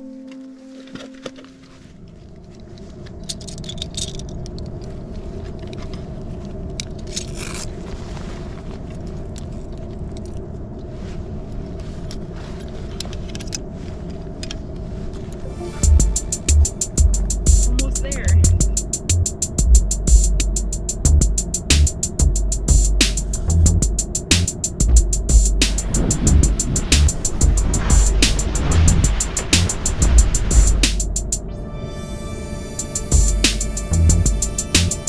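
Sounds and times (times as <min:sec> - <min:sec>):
wind rumbling on microphone: 0:01.8 - 0:31.6.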